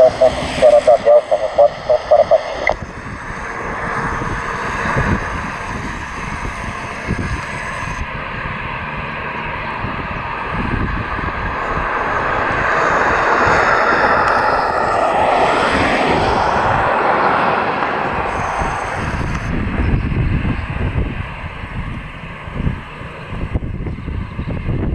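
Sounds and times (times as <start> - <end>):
airplane engines running: 0.0 - 24.9.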